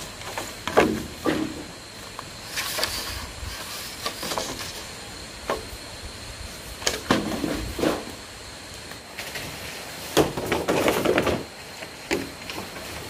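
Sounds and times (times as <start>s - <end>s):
bamboo poles knocking and scraping: 0.0s - 5.7s, 6.8s - 8.2s, 9.2s - 13.0s
leaves rustling: 0.0s - 13.0s.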